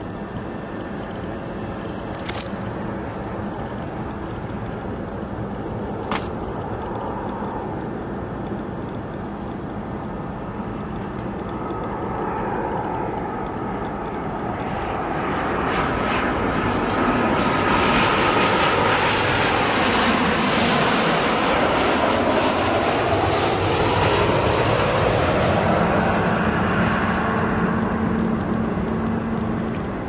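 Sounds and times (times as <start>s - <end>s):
aircraft engines rushing: 0.0s - 30.0s
engine whine: 0.0s - 30.0s.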